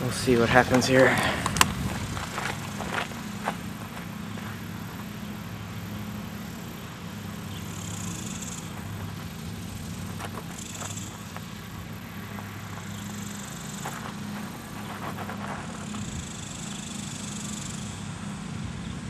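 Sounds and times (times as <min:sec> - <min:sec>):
background hiss: 0:00.0 - 0:18.8.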